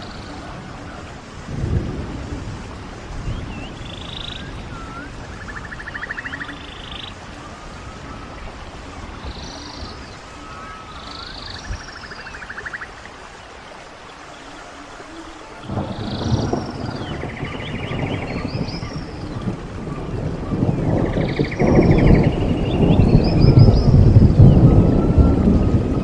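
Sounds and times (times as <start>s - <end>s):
stream water running: 0.0s - 26.0s
birds chirping: 3.2s - 24.9s.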